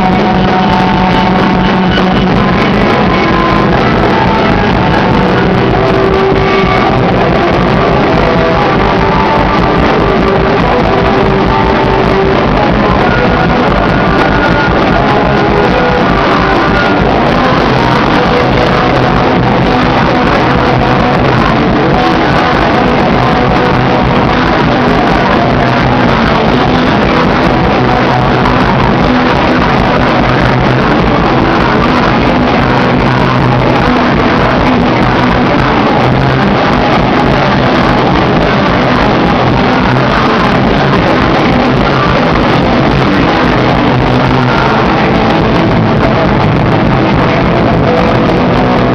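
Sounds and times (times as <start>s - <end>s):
live rock band playing: 0.0s - 48.9s.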